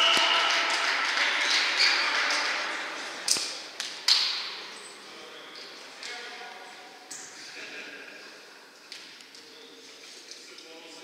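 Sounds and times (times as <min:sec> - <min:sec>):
echoing hall noise: 0:00.0 - 0:11.0.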